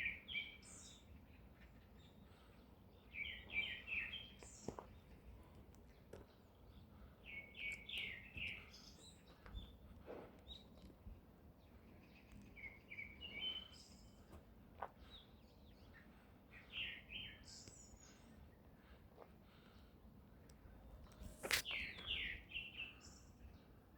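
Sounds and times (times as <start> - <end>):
small birds chirping: 0.0 - 23.8.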